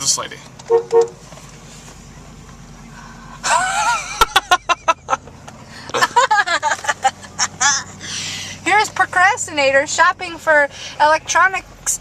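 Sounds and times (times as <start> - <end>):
vehicle cabin hum: 0.0 - 12.0.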